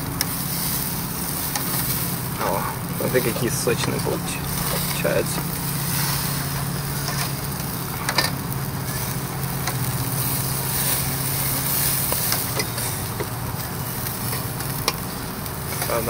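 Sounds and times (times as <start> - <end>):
burgers sizzling on grill: 0.0 - 16.0
fat popping on coals: 0.0 - 16.0
low hum: 0.0 - 16.0.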